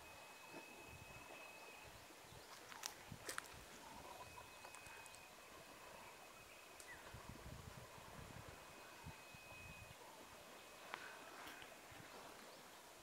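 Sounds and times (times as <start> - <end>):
thin steady high tone: 0.0 - 2.1, 3.8 - 12.3
faint outdoor ambience: 0.0 - 13.0.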